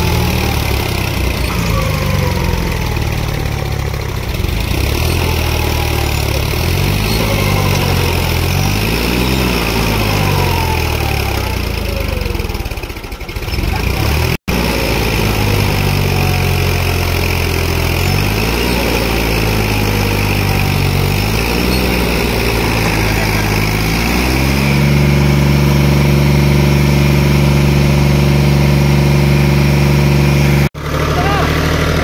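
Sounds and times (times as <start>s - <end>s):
tractor diesel engine straining: 0.0s - 32.0s.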